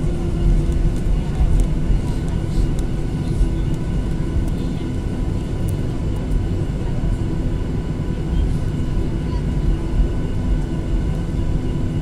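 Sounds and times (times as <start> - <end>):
aircraft cabin rumble: 0.0 - 12.0
jet engine whine: 0.0 - 12.0.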